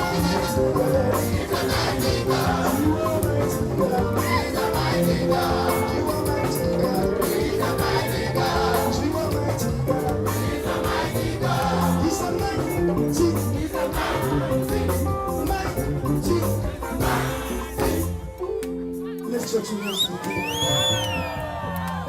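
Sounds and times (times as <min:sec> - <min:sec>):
voices singing together: 0:00.0 - 0:18.5
steady bass line: 0:00.0 - 0:18.6
gospel music instruments: 0:00.0 - 0:22.0.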